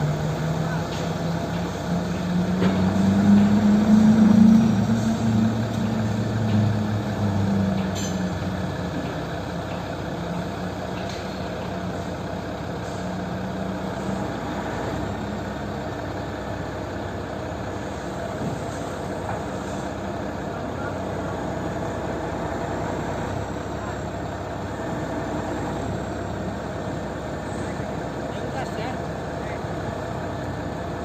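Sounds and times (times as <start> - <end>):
truck diesel engine idling: 0.0 - 31.0.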